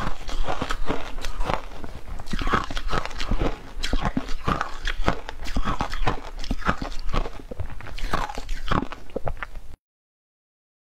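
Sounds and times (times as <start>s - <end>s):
shaved ice being chewed: 0.0s - 9.8s.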